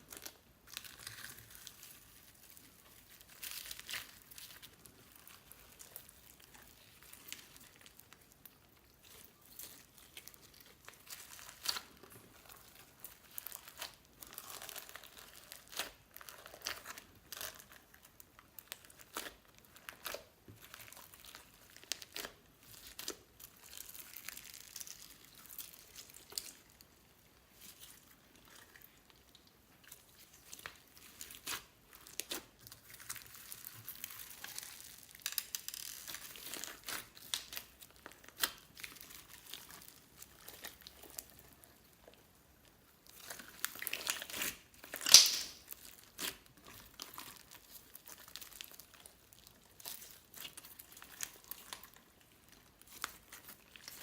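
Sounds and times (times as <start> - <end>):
slime crackling and popping: 0.0 - 54.0.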